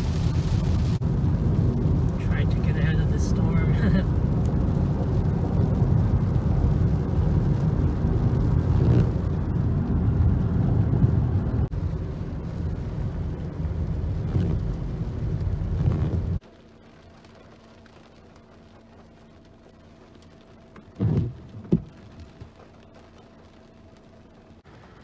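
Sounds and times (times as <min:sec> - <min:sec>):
car driving in rain: 0:00.0 - 0:25.0.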